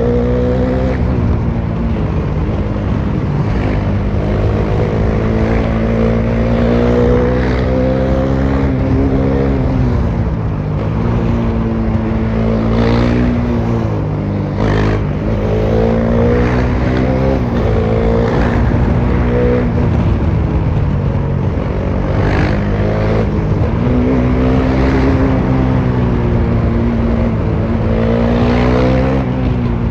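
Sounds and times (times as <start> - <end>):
motorcycle engine at speed: 0.0 - 29.9.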